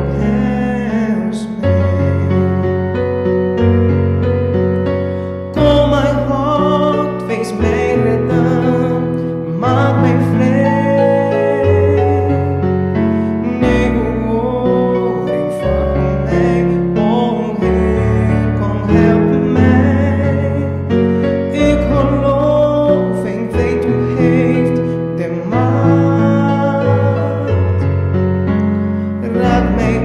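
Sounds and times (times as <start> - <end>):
person singing slow melody: 0.0 - 3.7, 4.8 - 30.0
keyboard accompaniment: 0.0 - 30.0.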